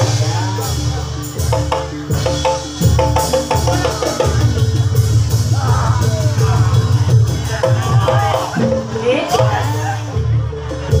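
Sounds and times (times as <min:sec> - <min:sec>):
drum strokes: 0:00.0 - 0:11.0
ringing metal percussion: 0:00.0 - 0:11.0.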